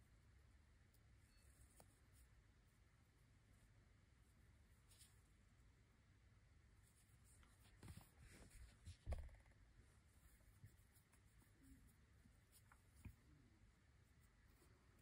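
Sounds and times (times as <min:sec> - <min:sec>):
thread rustling through stitches: 0:00.0 - 0:05.9, 0:06.6 - 0:15.0.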